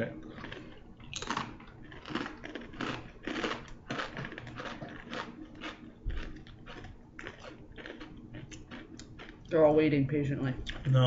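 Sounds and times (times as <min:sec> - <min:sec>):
person chewing crunchy food: 0:00.0 - 0:09.5, 0:10.7 - 0:11.0.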